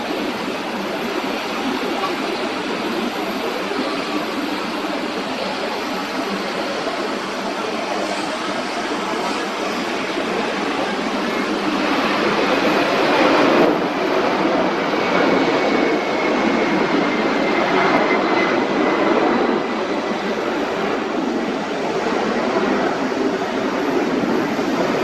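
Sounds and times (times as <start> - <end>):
jet engines rushing with whine: 0.0 - 25.0.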